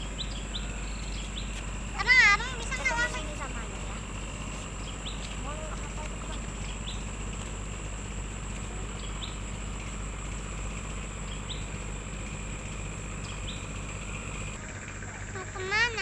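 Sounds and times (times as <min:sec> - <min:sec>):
bird chirping: 0:00.0 - 0:14.6
boat engine running: 0:00.0 - 0:16.0.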